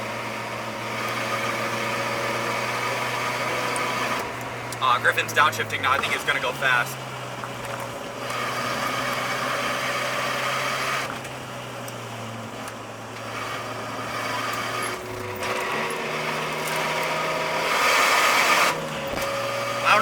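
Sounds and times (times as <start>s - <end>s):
car engine pulling under throttle: 0.0s - 20.0s
road noise: 0.0s - 20.0s.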